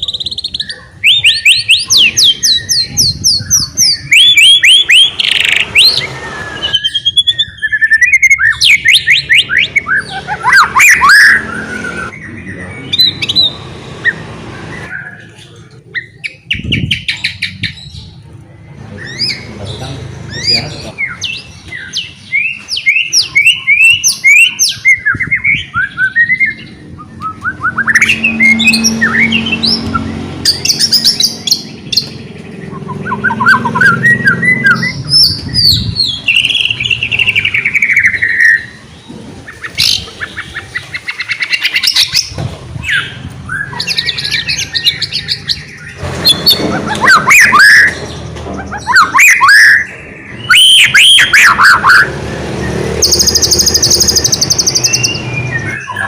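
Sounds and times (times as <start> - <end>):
songbird whistling and trilling: 0.0 - 18.2, 19.0 - 19.5, 20.3 - 38.9, 39.5 - 56.0.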